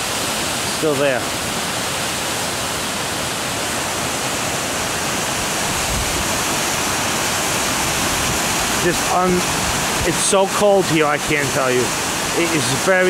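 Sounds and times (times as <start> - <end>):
waterfall roaring into river: 0.0 - 13.0.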